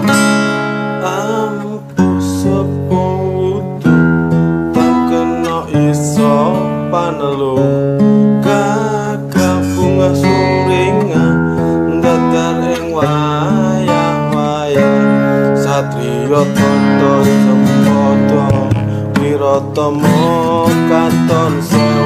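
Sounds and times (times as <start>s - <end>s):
man singing: 0.0s - 22.0s
strummed acoustic guitar: 0.0s - 22.0s.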